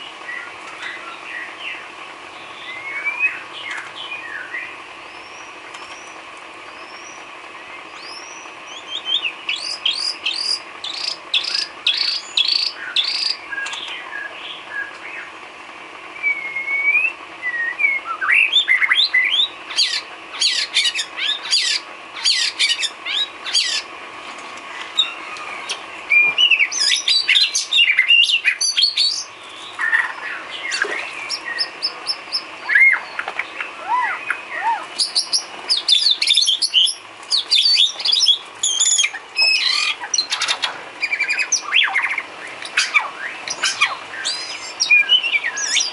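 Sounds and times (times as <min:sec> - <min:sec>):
songbird singing varied song: 0:00.0 - 0:15.4, 0:16.1 - 0:23.9, 0:24.7 - 0:45.9
faint steady hum: 0:00.0 - 0:45.9.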